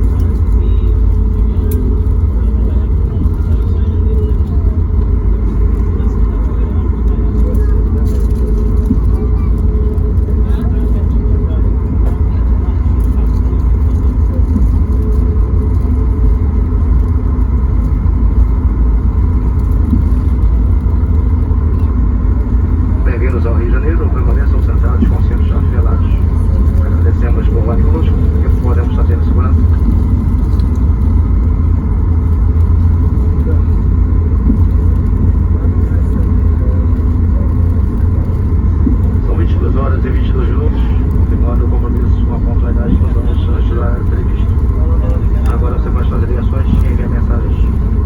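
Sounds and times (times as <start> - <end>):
airplane cabin rumble: 0.0 - 48.0
faint engine tones: 0.0 - 48.0.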